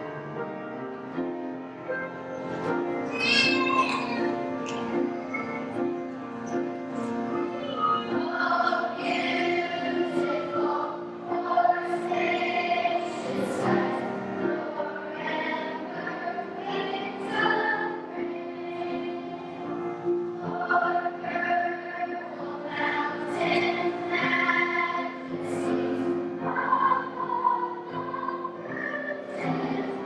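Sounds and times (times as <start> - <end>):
children's choir singing: 0.0 - 30.0
sustained accompaniment: 0.0 - 30.0.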